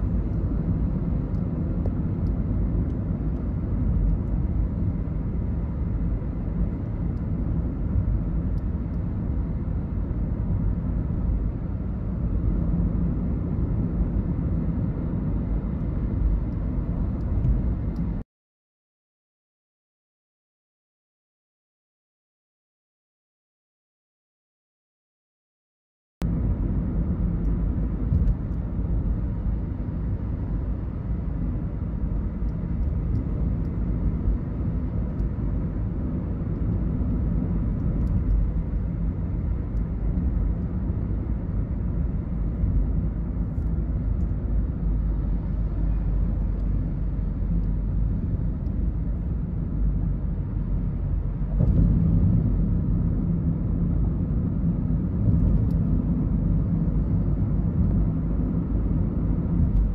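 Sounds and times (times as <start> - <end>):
car engine rumble: 0.0 - 18.2, 26.2 - 59.9.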